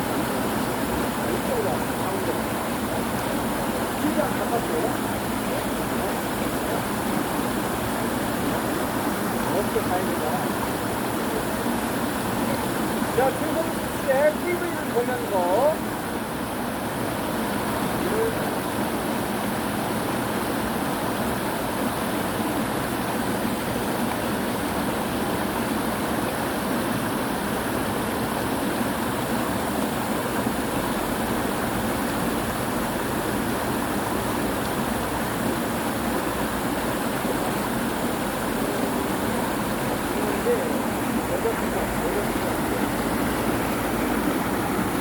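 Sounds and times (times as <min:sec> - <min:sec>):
stream water rushing: 0:00.0 - 0:45.0.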